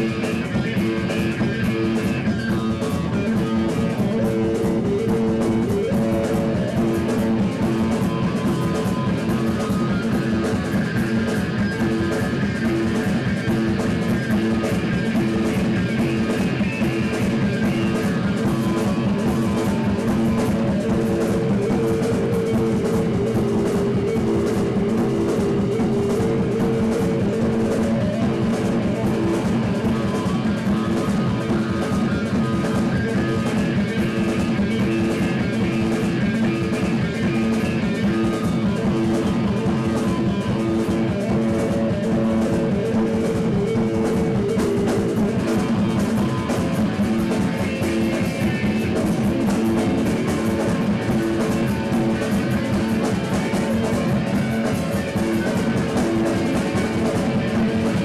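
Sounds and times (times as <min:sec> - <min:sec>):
drum kit drumming: 0:00.0 - 0:58.0
electric guitar: 0:00.0 - 0:58.0
live rock band playing: 0:00.0 - 0:58.0.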